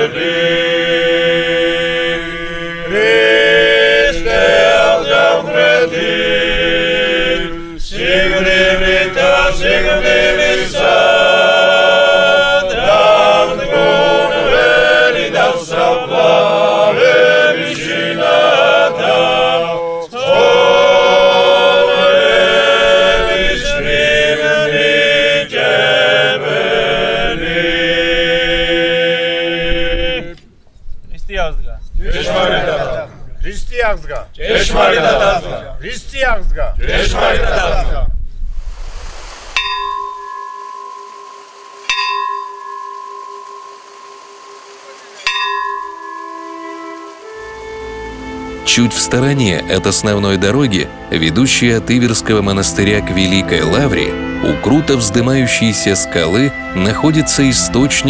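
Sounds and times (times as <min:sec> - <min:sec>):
choir chanting unaccompanied: 0:00.0 - 0:30.5, 0:32.0 - 0:33.3, 0:34.4 - 0:35.9, 0:36.7 - 0:38.0, 0:43.6 - 0:58.0.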